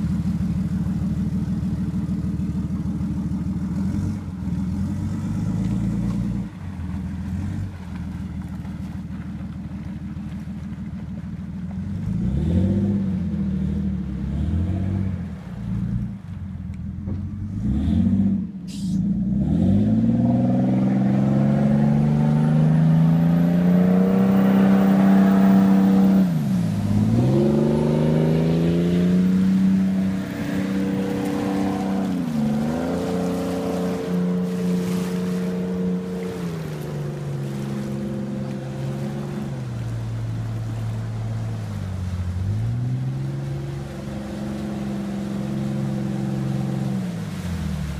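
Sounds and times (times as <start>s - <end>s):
boat engines revving: 0.0s - 47.9s.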